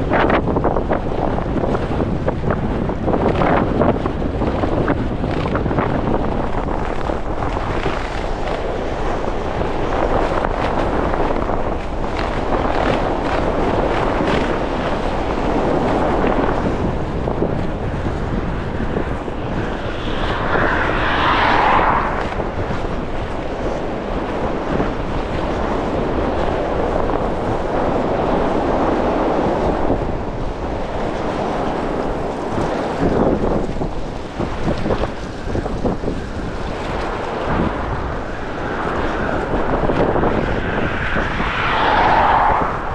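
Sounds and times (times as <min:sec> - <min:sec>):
gusty wind buffeting microphone: 0:00.0 - 0:42.9.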